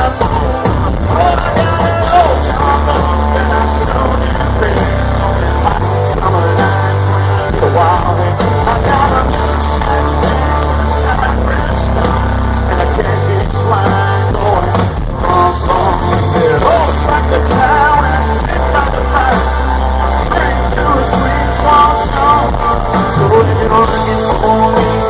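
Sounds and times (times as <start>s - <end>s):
country-rock band playing: 0.0s - 25.0s
person singing: 0.0s - 25.0s.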